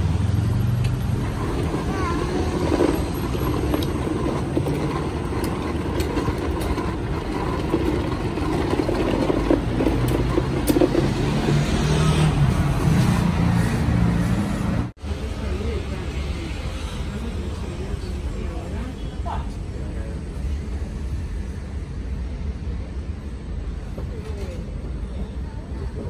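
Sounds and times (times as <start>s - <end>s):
cars passing on street: 0.0s - 24.1s.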